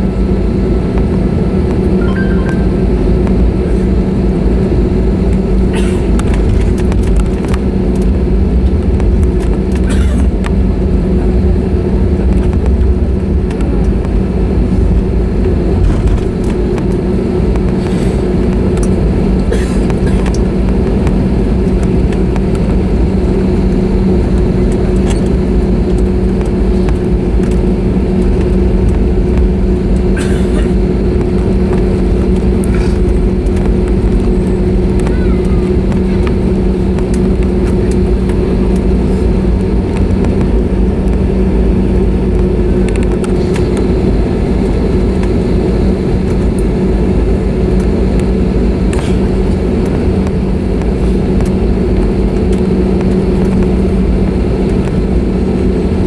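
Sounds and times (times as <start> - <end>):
aircraft engine hum: 0.0 - 56.0.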